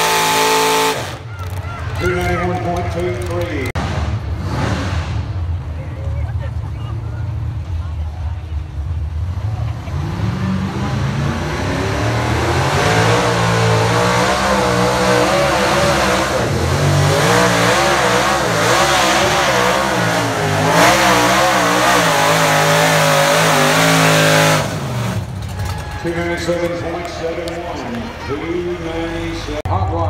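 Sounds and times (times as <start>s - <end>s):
truck engine at full throttle: 0.0s - 30.0s.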